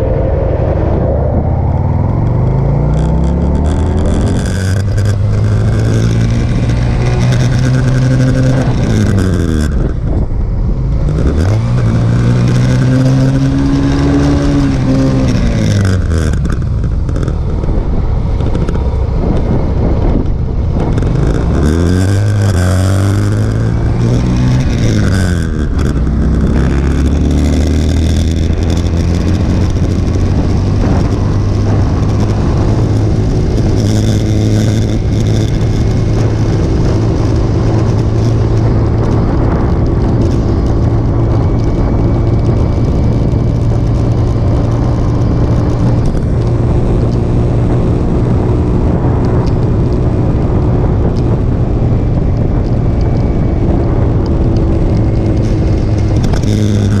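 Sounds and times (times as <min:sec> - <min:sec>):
motorcycle engine: 0:00.0 - 0:57.0
wind and road noise: 0:00.0 - 0:57.0.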